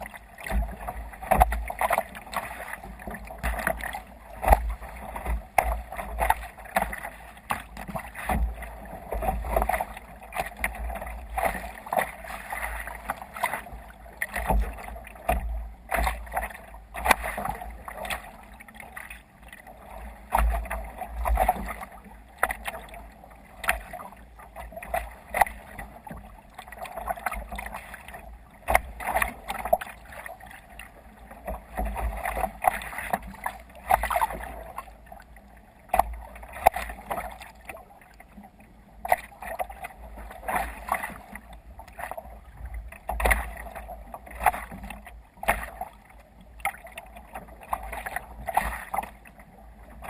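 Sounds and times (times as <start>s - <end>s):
water splashing against kayak hull: 0.0s - 50.0s.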